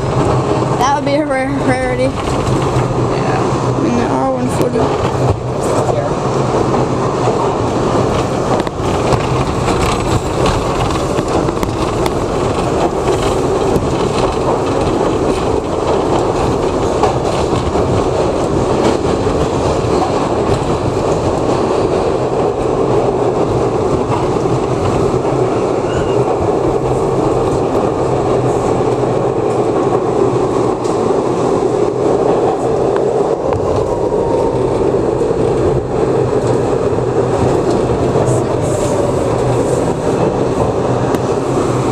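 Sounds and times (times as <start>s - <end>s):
subway car rumble and rail noise: 0.0s - 41.9s.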